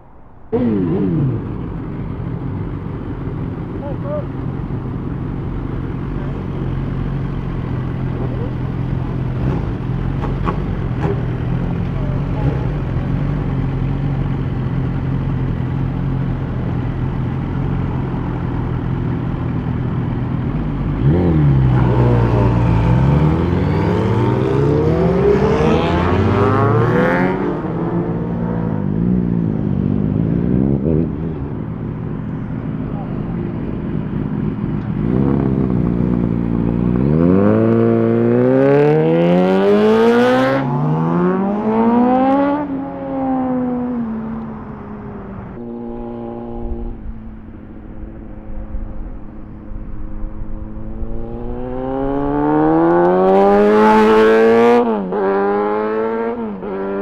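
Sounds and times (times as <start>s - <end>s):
motorcycle engines idling and revving: 0.0s - 57.0s
motorcycle accelerating through gears: 0.5s - 57.0s.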